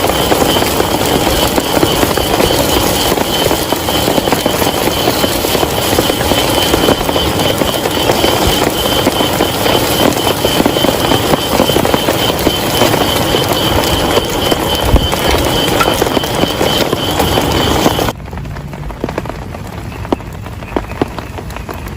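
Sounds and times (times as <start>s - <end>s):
heavy rain falling: 0.0s - 19.8s.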